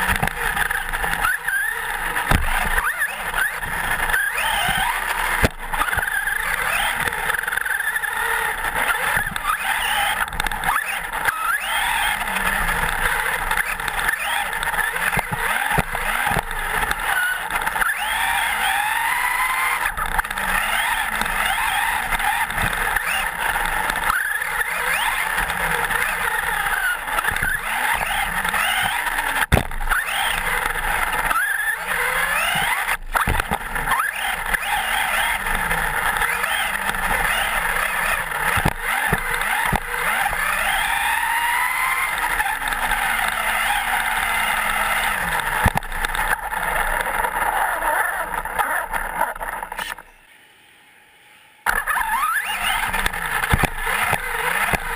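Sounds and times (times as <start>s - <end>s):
tyre noise on dirt: 0.0s - 49.0s, 51.7s - 54.9s
electric motor and gear whine: 0.0s - 54.9s.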